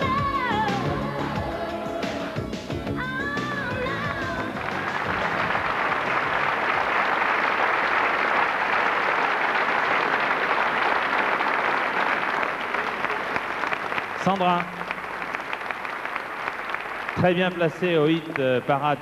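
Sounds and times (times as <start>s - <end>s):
large audience applauding: 3.8s - 19.0s.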